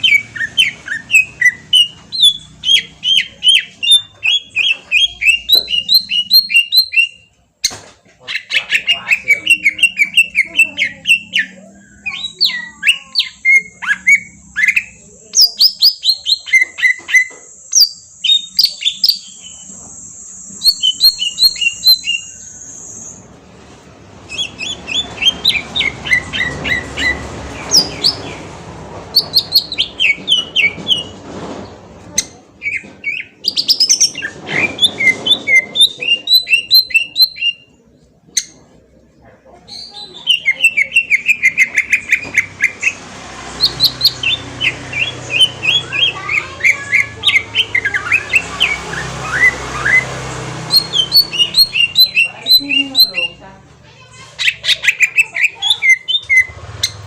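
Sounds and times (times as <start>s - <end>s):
bird chirping and trilling: 0.0s - 23.4s, 24.1s - 31.2s, 32.1s - 38.8s, 39.6s - 57.0s.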